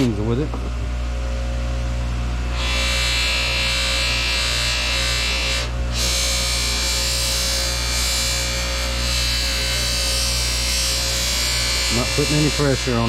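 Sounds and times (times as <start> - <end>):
electric buffing wheel running: 2.5 - 13.0.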